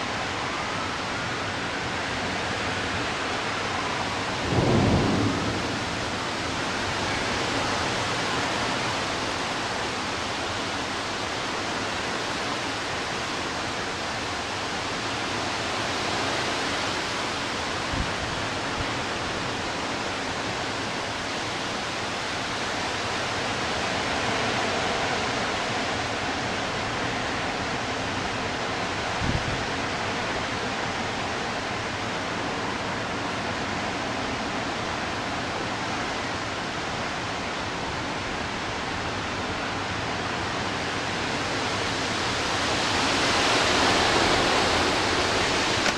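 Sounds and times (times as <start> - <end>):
heavy rain: 0.0 - 45.9
strong wind: 0.0 - 45.9.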